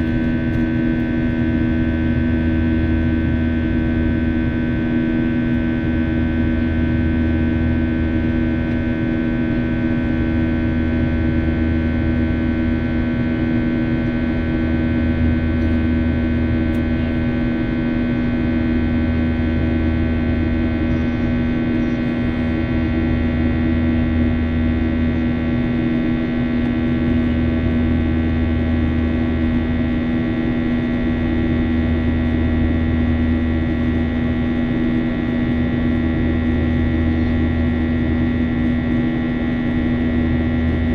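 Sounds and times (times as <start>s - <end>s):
jet engines droning in cabin: 0.0s - 40.9s.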